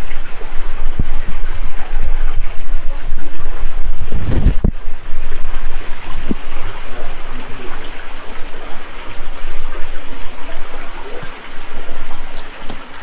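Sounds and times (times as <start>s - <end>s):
creek running: 0.0s - 13.0s.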